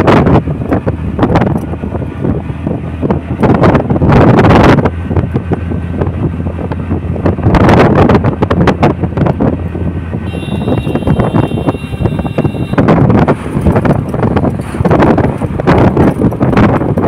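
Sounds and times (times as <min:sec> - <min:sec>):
vehicle engine hum: 0:00.0 - 0:17.0
wind buffeting microphone: 0:00.0 - 0:17.0.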